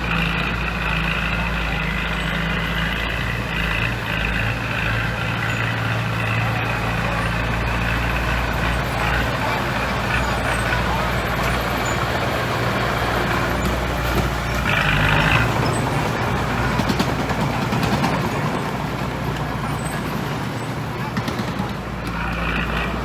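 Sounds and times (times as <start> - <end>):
diesel construction machinery running: 0.0 - 23.0.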